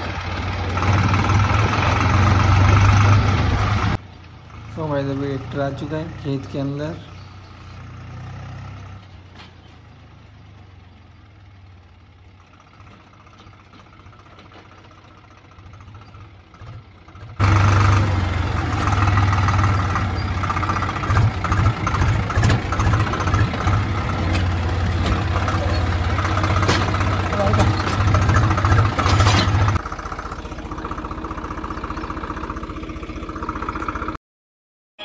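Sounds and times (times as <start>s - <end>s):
tractor diesel engine running: 0.0s - 34.2s.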